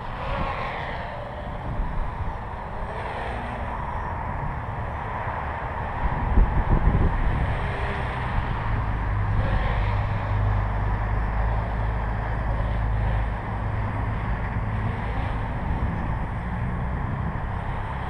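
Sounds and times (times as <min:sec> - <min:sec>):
distant drone motors buzzing: 0:00.0 - 0:18.0
wind buffeting microphone: 0:00.0 - 0:18.0.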